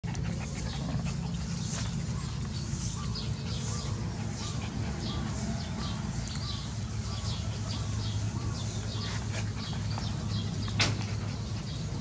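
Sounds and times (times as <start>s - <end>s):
puppies whining: 0.1s - 12.0s.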